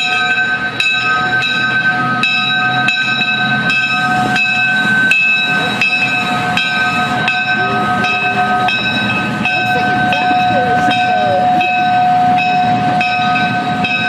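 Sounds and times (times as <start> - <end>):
locomotive bell ringing: 0.0 - 14.0
train rumble: 0.0 - 14.0.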